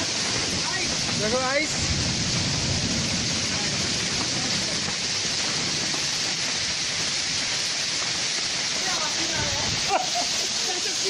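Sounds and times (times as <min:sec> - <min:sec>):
heavy rain and hail on pavement: 0:00.0 - 0:11.0.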